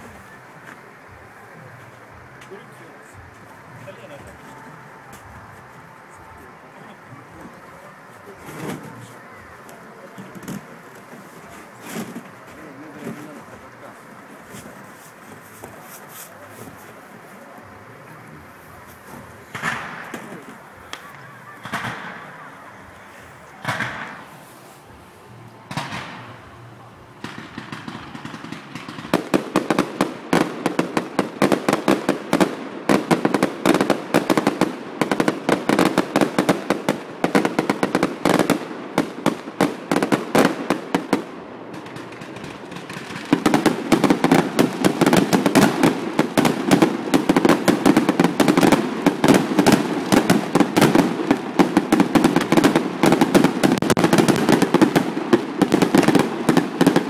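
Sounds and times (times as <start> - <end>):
firework bangs: 0.0 - 25.0, 25.6 - 57.0.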